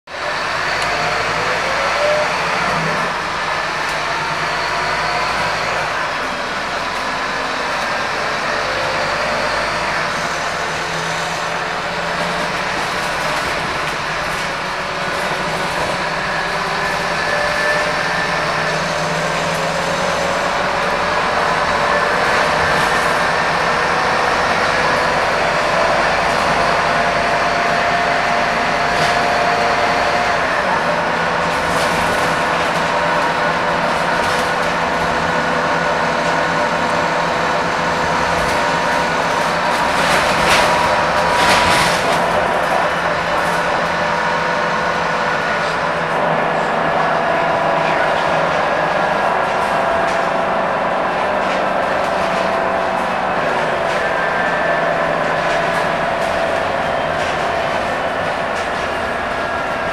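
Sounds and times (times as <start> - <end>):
bus diesel engine from inside: 0.0 - 59.9.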